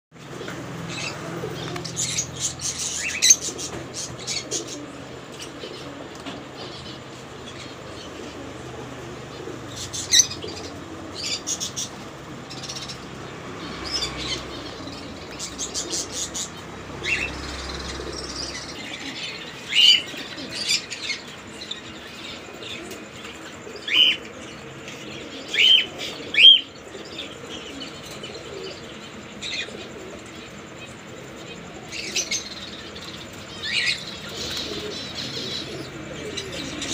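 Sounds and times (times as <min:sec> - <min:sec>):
lovebirds chirping: 0:00.2 - 0:36.9
steady background noise: 0:00.2 - 0:36.9.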